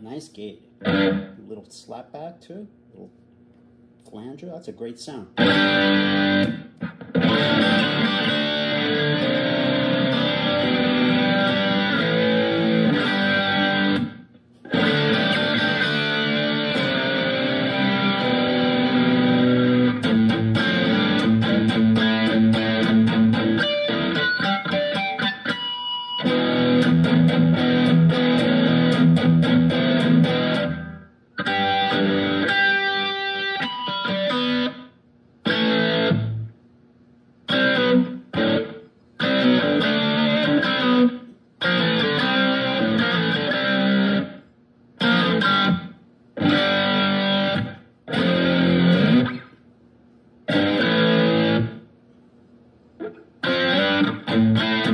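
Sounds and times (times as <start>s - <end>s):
distorted electric guitar riffing: 0.8s - 1.4s, 5.4s - 36.5s, 37.5s - 44.4s, 45.0s - 49.6s, 50.5s - 51.9s, 53.0s - 54.9s.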